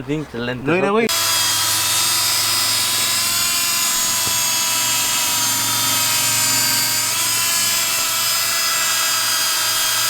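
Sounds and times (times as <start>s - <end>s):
small motor whining with hiss: 1.1s - 10.0s.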